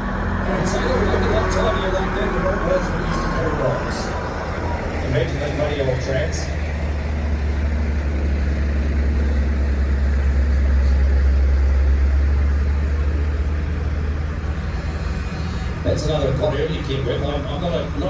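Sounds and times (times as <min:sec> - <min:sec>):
heavy truck engine rumbling: 0:00.0 - 0:18.0.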